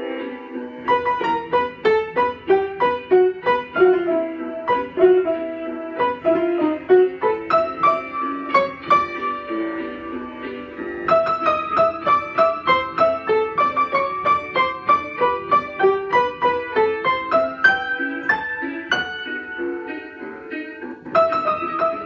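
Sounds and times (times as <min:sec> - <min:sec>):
upright piano playing: 0:00.0 - 0:22.0.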